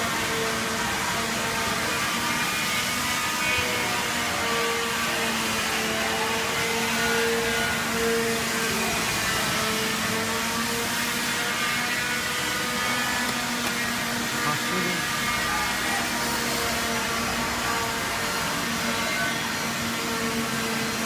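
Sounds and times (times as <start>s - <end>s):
motor whirring hum: 0.2s - 21.0s.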